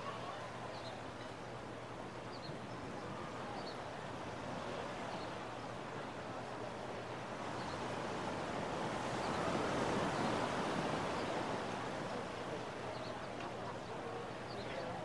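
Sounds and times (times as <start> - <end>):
surf washing: 0.0 - 15.0.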